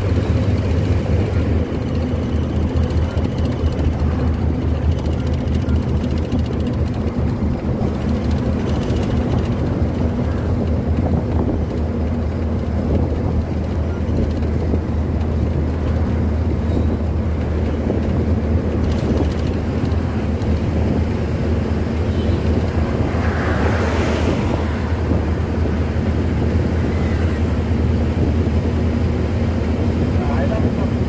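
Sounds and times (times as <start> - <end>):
road and wind noise: 0.0 - 31.0
truck engine droning: 0.0 - 31.0.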